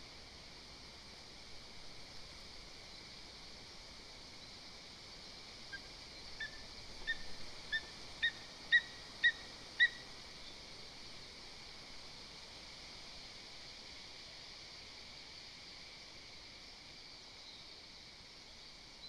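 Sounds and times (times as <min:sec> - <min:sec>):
microphone hiss: 0:00.0 - 0:19.0.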